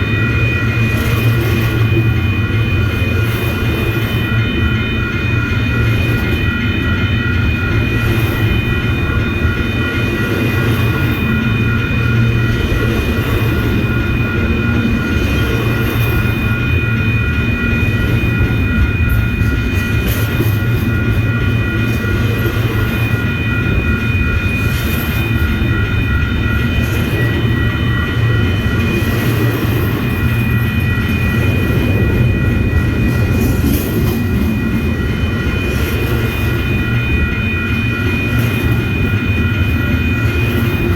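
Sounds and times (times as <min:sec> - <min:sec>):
train rumbling past: 0:00.0 - 0:40.9
train whine: 0:00.0 - 0:40.9.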